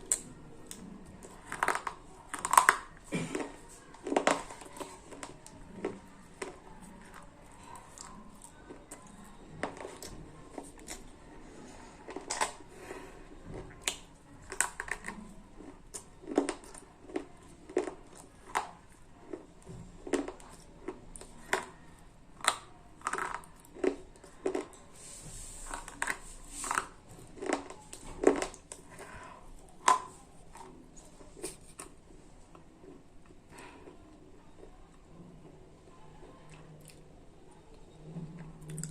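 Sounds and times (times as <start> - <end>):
slate pencils being chewed: 0.0 - 38.9.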